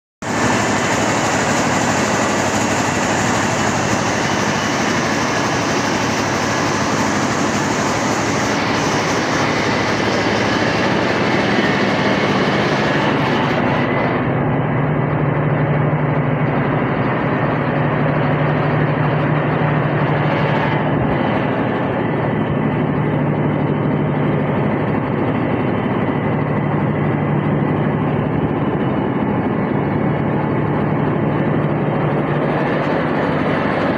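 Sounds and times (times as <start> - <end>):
rice mill machine running: 0.2 - 33.9
steady low hum: 0.3 - 33.9.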